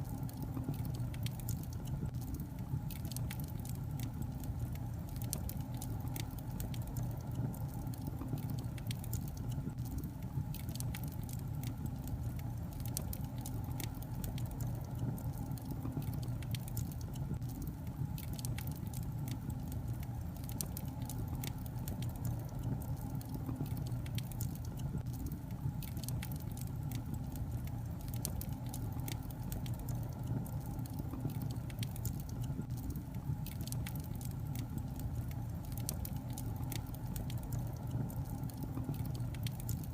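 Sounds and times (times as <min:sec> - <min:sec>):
fire low rumble: 0:00.0 - 0:39.9
logs crackling and popping: 0:00.0 - 0:39.9.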